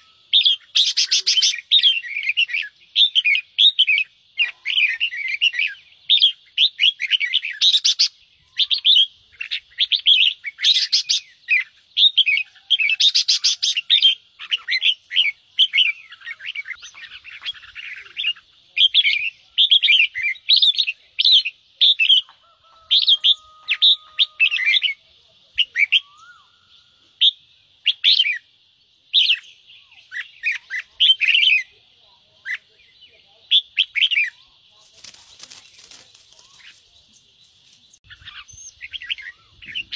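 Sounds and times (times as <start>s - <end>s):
bulbuls chattering: 0.0s - 28.4s, 29.2s - 39.9s.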